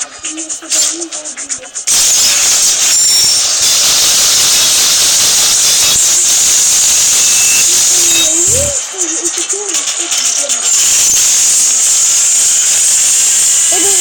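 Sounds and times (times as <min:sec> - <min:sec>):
loud steady hiss: 0:00.0 - 0:14.0.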